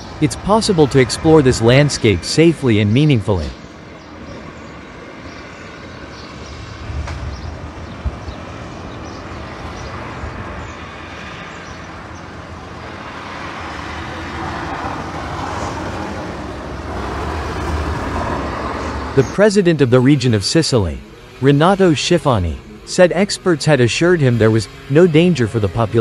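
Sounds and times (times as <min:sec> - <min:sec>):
outdoor background rumble: 0:00.0 - 0:26.0.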